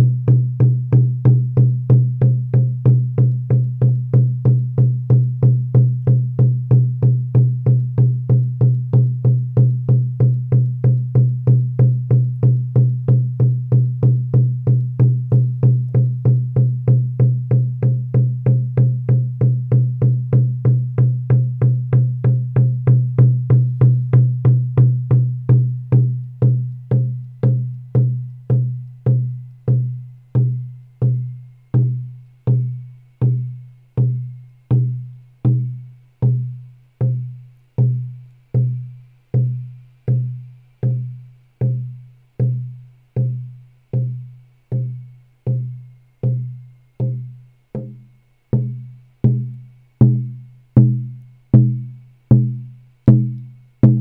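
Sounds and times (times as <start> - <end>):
frame drum beating: 0.0 - 54.0.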